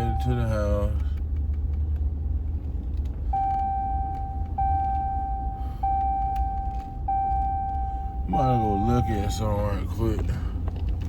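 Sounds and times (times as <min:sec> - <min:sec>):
truck road and engine rumble: 0:00.0 - 0:11.0.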